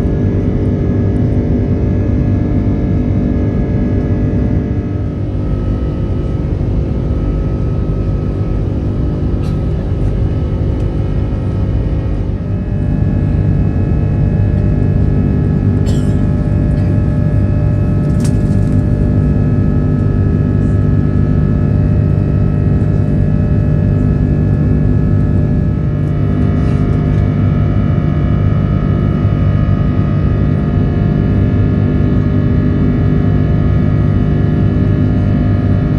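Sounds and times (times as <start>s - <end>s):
jet engine and airflow rumble: 0.0s - 35.9s.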